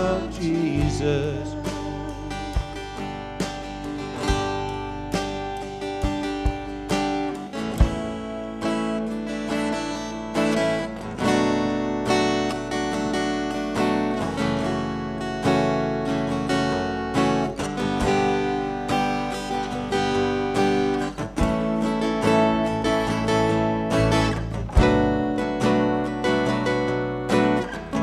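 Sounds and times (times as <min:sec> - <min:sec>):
live band playing: 0:00.0 - 0:28.0
strummed acoustic guitar: 0:00.0 - 0:28.0.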